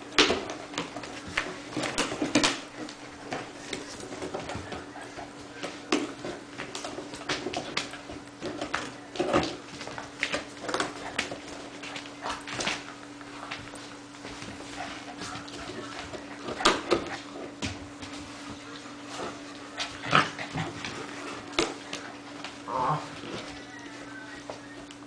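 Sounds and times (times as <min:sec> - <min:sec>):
puppy chewing cardboard: 0:00.0 - 0:22.6.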